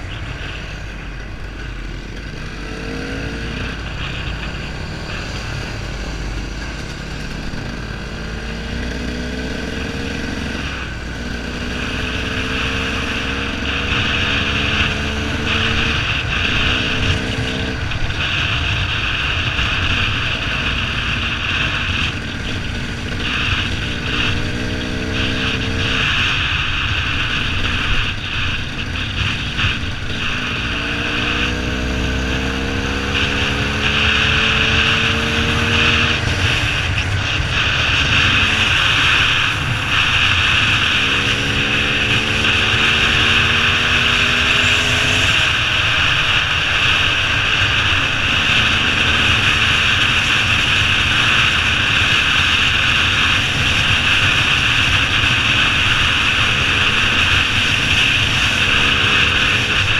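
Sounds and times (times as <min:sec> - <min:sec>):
wind noise on microphone: 0:00.0 - 0:59.9
dirt bike engine revving: 0:01.5 - 0:59.9.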